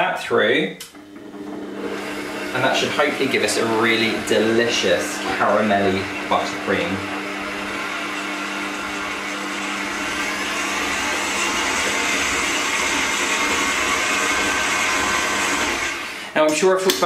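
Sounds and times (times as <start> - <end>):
stand mixer running: 0.9 - 17.0.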